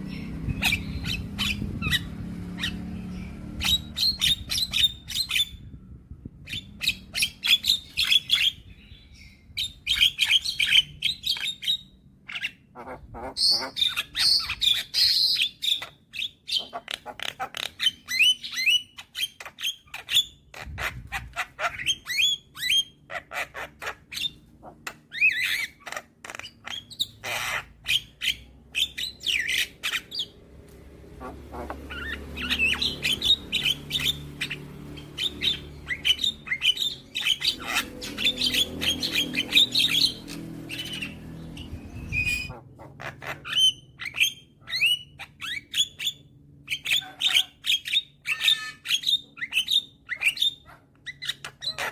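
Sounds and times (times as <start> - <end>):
bird singing squawks and whistles: 0.0 - 5.7, 6.4 - 30.4, 31.2 - 51.9.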